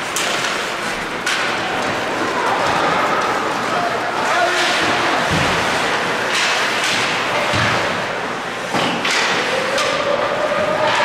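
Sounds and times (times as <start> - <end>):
hockey sticks and puck knocking: 0.0 - 8.0, 8.7 - 11.0
ice rink noise: 0.0 - 11.0.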